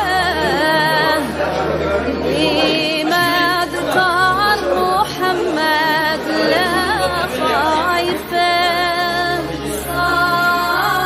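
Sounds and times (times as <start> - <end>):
solo voice singing ornamented melody: 0.0 - 1.5, 2.2 - 11.0.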